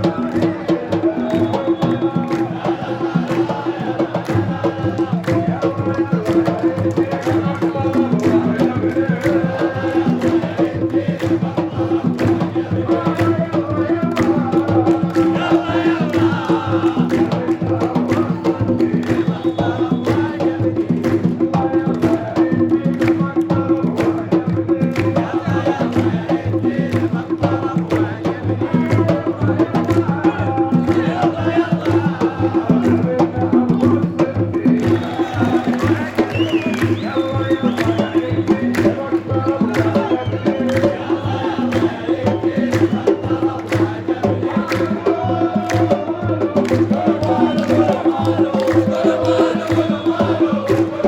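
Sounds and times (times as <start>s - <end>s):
crowd chanting: 0.0s - 51.0s
steady drum beat: 0.0s - 51.0s.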